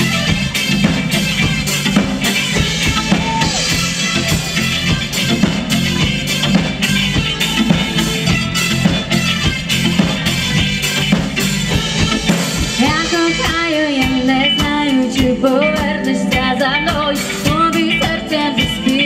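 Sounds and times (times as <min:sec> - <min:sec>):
bass guitar: 0:00.0 - 0:19.0
drum kit beat: 0:00.0 - 0:19.0
electric guitar: 0:00.0 - 0:19.0.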